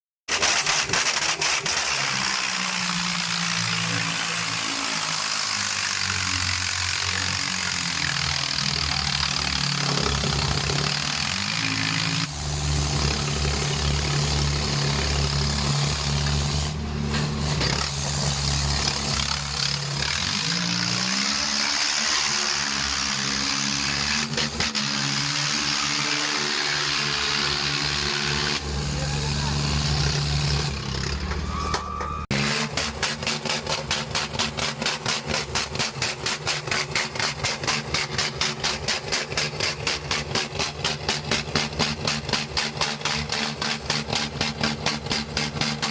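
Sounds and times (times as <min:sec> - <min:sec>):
tractor diesel engines running: 0:00.3 - 0:45.9.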